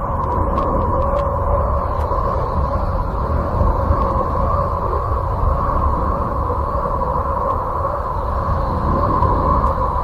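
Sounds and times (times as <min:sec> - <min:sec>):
rumbling drone with humming tones: 0:00.0 - 0:10.0.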